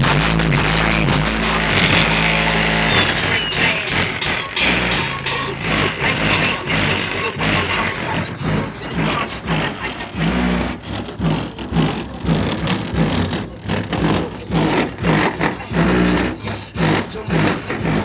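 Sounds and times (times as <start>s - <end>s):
heavy bass pulses: 0.0s - 18.0s
loud hip-hop through car subwoofers: 0.0s - 18.0s.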